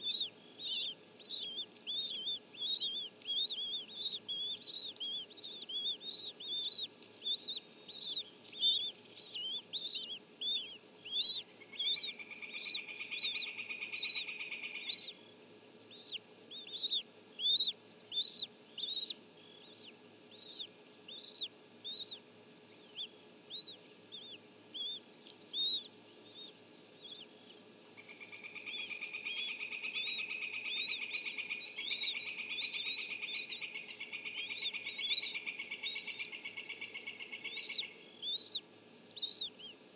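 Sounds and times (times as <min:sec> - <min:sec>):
eagle chicks cheeping: 0:00.0 - 0:15.2, 0:15.9 - 0:39.8.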